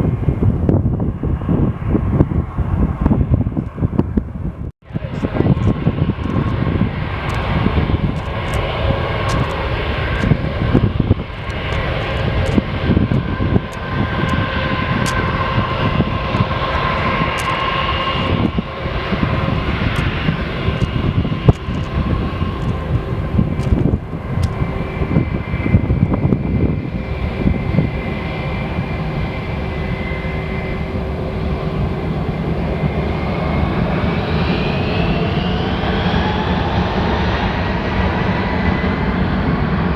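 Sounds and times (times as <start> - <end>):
airliner engines whining: 0.0 - 39.9
wind buffeting microphone: 0.0 - 39.9.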